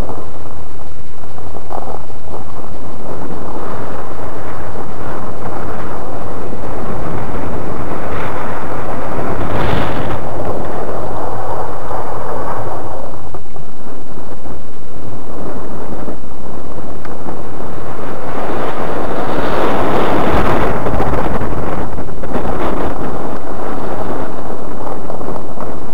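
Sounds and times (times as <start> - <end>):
tyres on snow: 0.0 - 25.9
wind buffeting microphone: 0.0 - 25.9.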